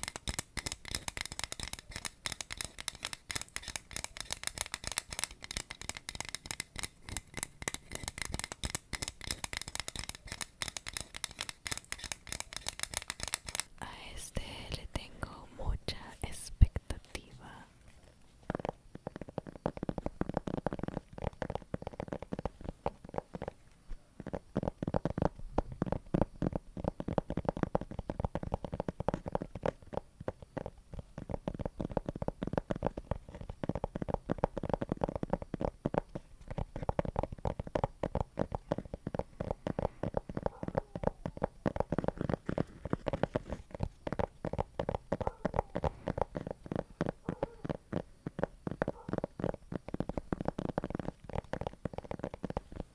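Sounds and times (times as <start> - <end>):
rapid sticky crackling clicks: 0.0 - 52.9.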